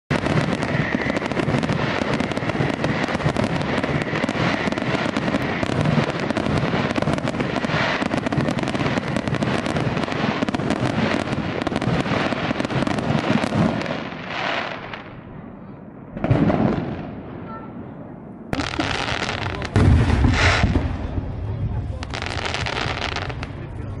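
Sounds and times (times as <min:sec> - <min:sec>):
fireworks bursting and crackling: 0:00.1 - 0:24.0.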